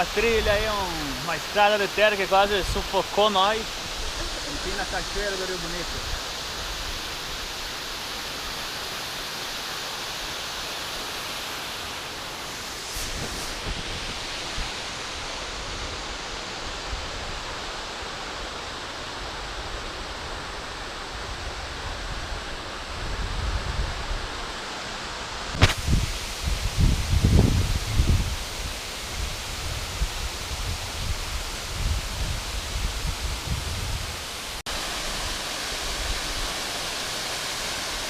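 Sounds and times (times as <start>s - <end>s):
waterfall rushing: 0.0s - 22.9s, 24.2s - 38.0s.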